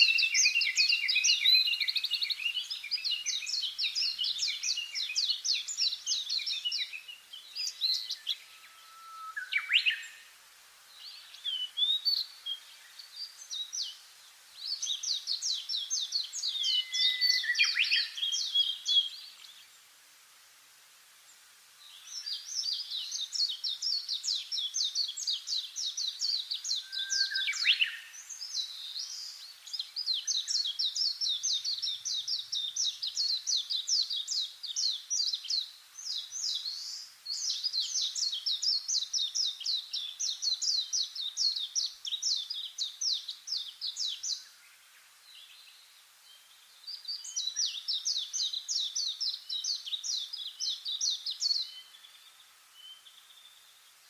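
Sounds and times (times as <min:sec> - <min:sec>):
songbirds twittering: 0:00.0 - 0:54.0.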